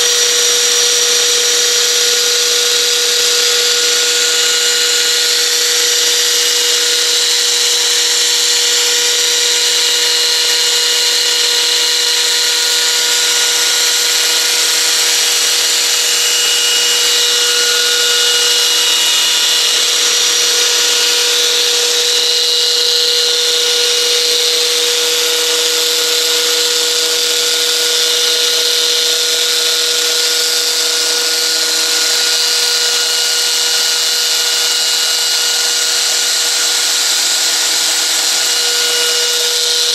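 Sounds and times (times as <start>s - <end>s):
electric rc helicopter whine: 0.0s - 39.9s.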